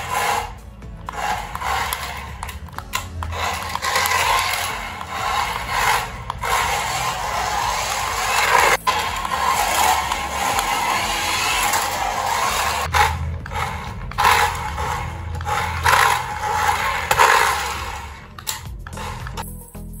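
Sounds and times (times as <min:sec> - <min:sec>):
toy car motor whirring: 0:00.0 - 0:19.5
wheels rolling on stone floor: 0:00.0 - 0:19.5.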